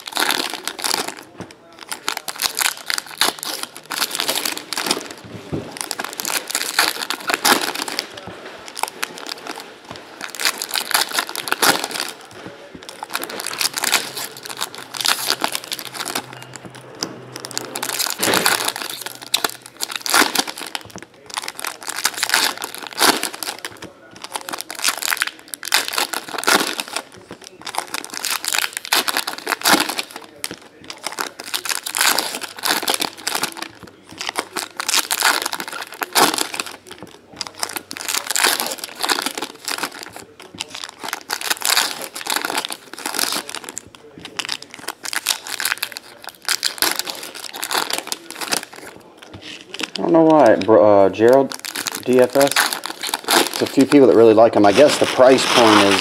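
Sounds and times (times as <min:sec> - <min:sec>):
foil wrappers crinkling: 0:00.0 - 0:56.0.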